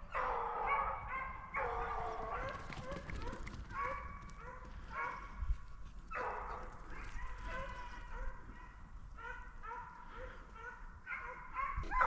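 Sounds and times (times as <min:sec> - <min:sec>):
hounds baying and barking: 0:00.0 - 0:12.0.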